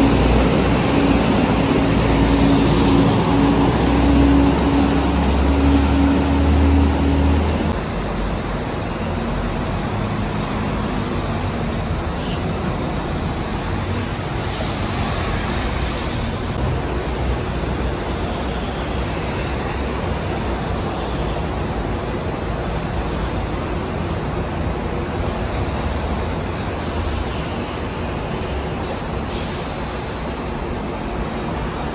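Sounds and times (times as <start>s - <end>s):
buses and cars passing: 0.0s - 31.9s.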